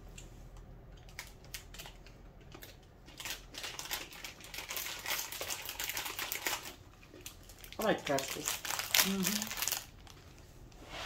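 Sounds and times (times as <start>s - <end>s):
plastic packaging crinkling: 1.0s - 10.5s.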